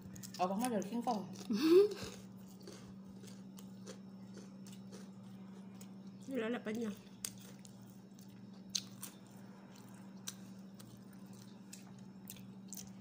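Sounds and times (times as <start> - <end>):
chewing crunchy vegetables: 0.0 - 13.0
steady low hum: 0.0 - 13.0.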